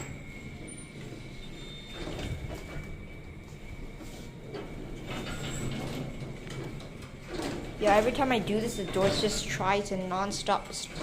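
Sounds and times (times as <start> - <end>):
lift doors sliding: 0.0 - 11.0
low lift rumble: 0.0 - 11.0.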